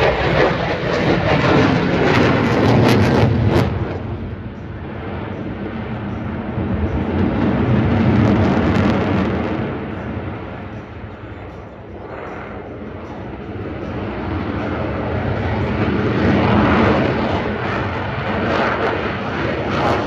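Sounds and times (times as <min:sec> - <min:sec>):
aircraft engine rumble with crackle: 0:00.0 - 0:20.0.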